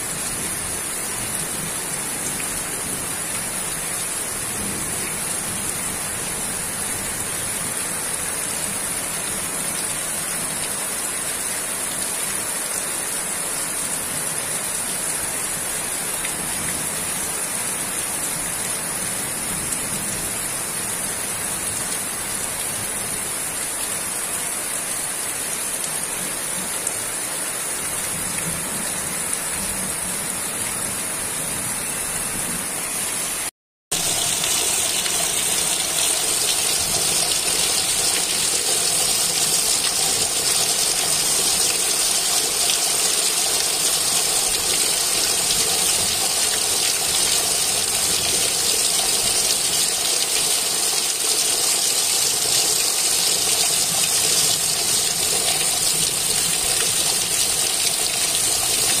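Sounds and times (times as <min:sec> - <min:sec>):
heavy rain falling: 0:00.0 - 0:59.0
rainwater pouring off roof: 0:00.0 - 0:59.0.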